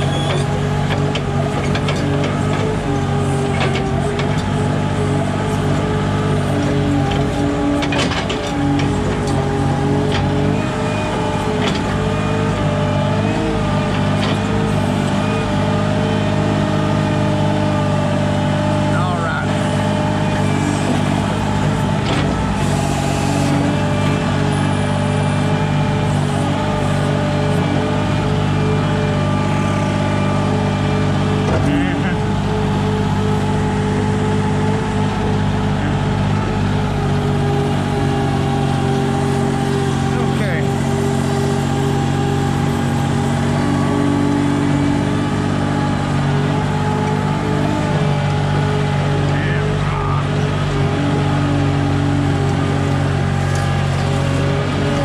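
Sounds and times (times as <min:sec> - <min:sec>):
forklift engine running: 0:00.0 - 0:55.0.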